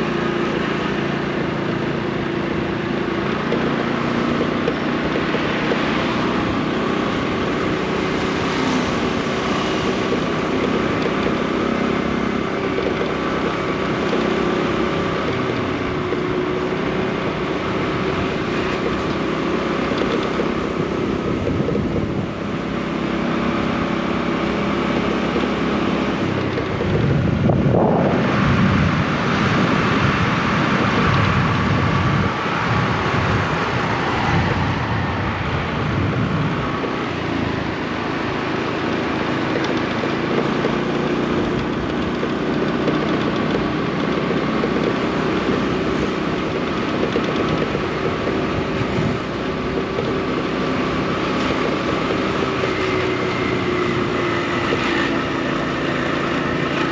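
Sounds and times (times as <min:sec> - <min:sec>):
motorbike engine running: 0:00.0 - 0:56.9
wind noise on microphone: 0:00.0 - 0:56.9.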